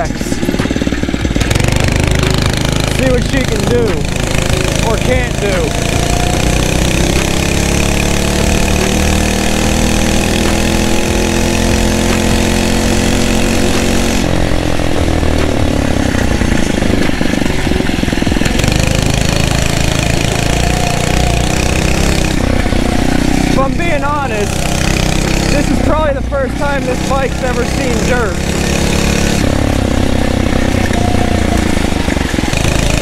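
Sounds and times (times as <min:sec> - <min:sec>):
motorized bicycle engine running: 0:00.0 - 0:33.0.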